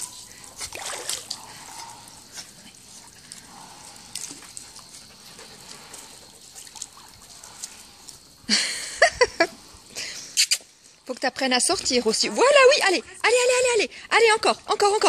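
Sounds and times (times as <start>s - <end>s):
pool water splashing and lapping: 0.0s - 11.0s, 11.6s - 15.0s.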